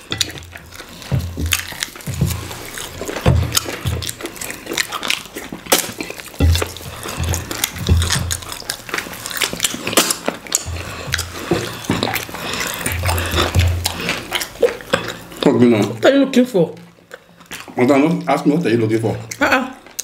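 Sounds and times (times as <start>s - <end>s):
wet smacking and chewing: 0.0s - 20.0s.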